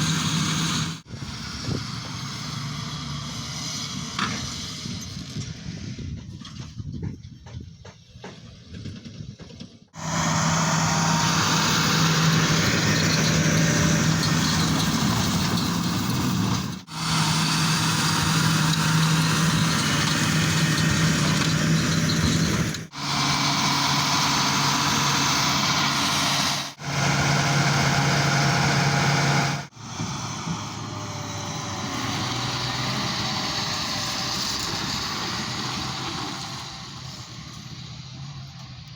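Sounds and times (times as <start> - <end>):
tractor engine humming: 0.0 - 8.2, 10.0 - 38.9.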